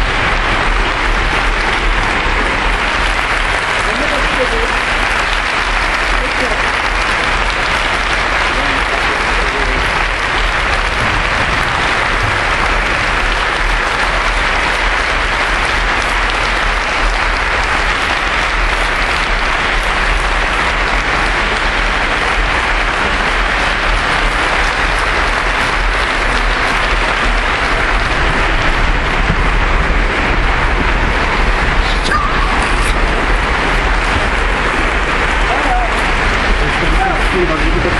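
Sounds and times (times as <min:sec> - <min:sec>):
audience applauding: 0:00.0 - 0:37.9.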